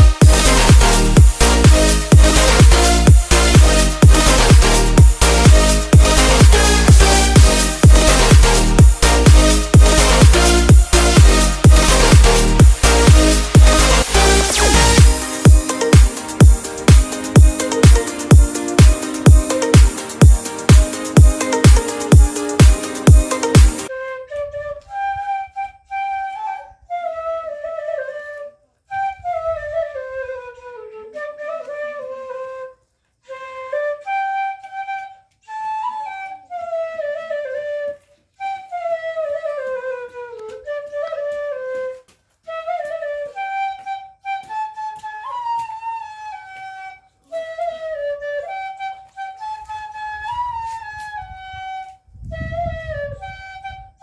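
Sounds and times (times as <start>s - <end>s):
flute melody: 0.0s - 54.0s.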